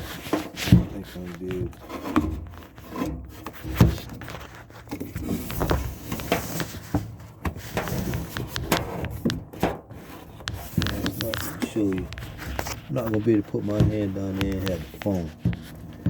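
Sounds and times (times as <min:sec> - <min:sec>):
handling rubbing and scraping: 0:00.0 - 0:16.0
small knocks: 0:00.3 - 0:16.0.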